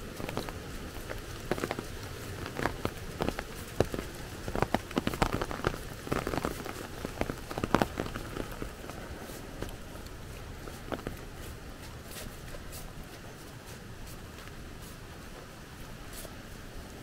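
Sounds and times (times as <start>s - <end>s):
heavy rain on an umbrella: 0.0s - 17.0s.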